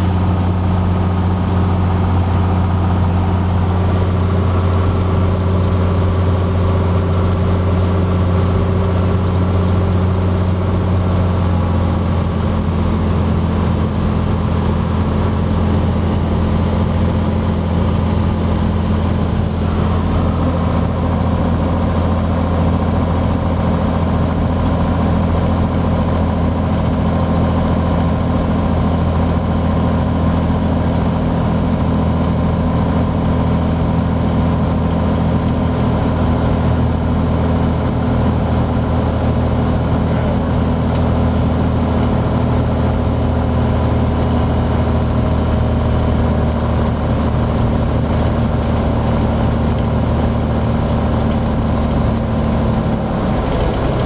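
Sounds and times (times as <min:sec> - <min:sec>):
airplane engine droning in cabin: 0:00.0 - 0:54.0.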